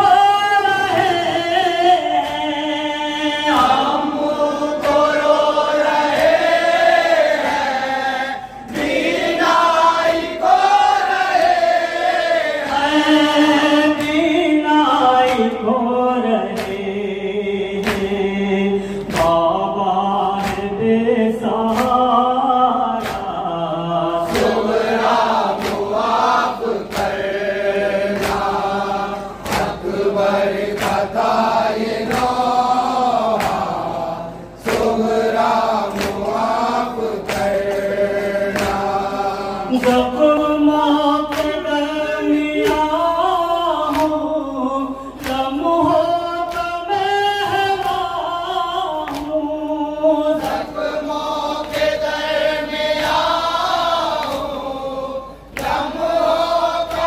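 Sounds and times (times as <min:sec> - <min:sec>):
men chanting in chorus: 0:00.0 - 0:57.0.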